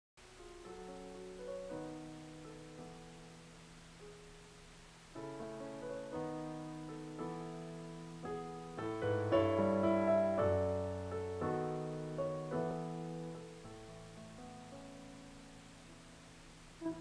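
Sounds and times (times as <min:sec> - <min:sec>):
keyboard piano chords: 0:00.2 - 0:17.0.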